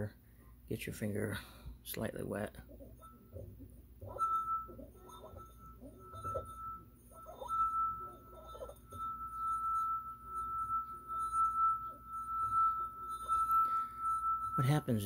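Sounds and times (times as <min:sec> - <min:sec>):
wine glass rim ringing: 0:02.8 - 0:15.0.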